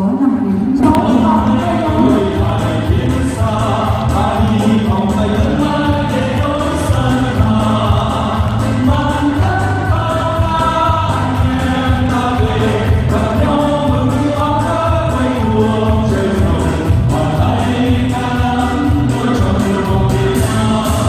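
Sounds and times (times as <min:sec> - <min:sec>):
choir singing: 0:00.0 - 0:21.0
instrumental accompaniment: 0:00.7 - 0:21.0.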